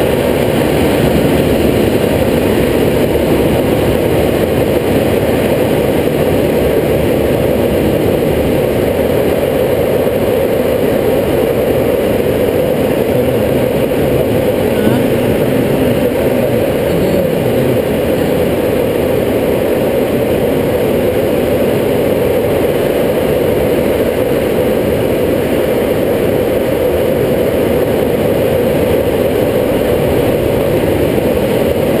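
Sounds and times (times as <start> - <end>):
propeller engine running: 0.0 - 32.0.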